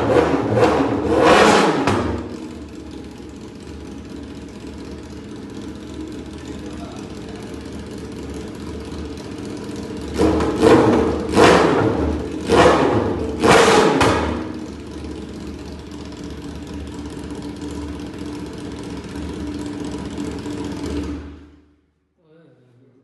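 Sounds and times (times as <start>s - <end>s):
motorcycle engine revving and idling: 0.0s - 21.8s.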